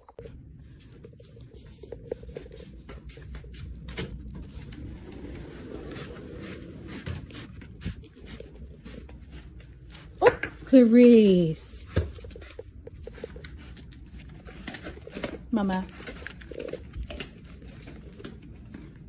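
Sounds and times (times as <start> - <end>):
deer chewing crunchy treats: 0.0 - 19.0.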